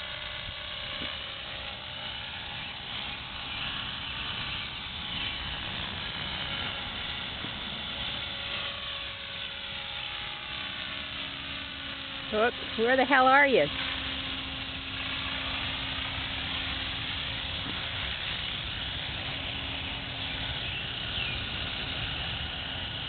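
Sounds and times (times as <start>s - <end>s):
motor and gears whining: 0.0s - 23.0s
rotor blades rushing: 0.0s - 23.0s.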